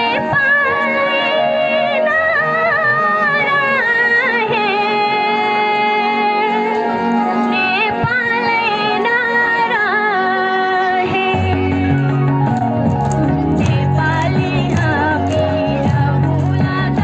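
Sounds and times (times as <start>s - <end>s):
girl singing through loudspeaker: 0.0s - 12.5s, 13.3s - 17.0s
music accompaniment: 0.0s - 17.0s.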